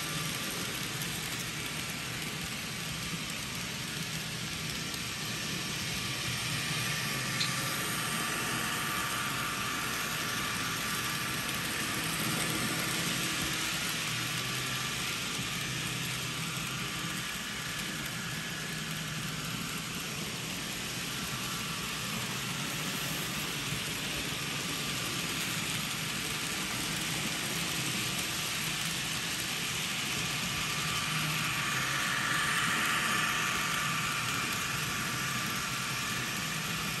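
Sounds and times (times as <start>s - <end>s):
model trains whirring on rails: 0.0s - 37.0s.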